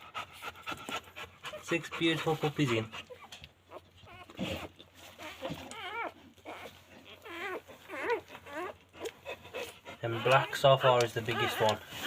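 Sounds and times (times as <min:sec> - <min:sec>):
puppies whimpering: 0:00.0 - 0:12.0.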